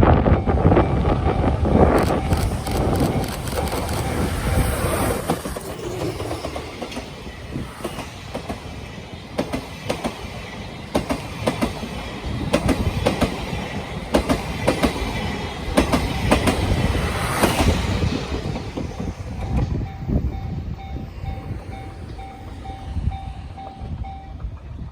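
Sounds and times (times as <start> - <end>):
level-crossing warning bell: 0.0 - 24.8
train rumble: 0.0 - 24.9
train wheels clicking on rail joints: 0.4 - 24.9.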